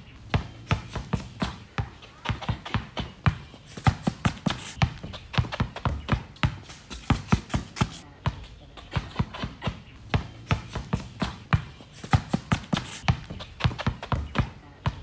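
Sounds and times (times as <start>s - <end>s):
basketball bouncing on concrete: 0.2s - 15.0s.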